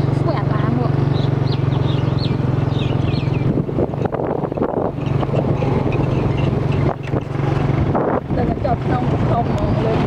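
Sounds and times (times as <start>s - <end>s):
vehicle engine running: 0.0s - 10.0s
wind buffeting microphone: 0.1s - 10.0s.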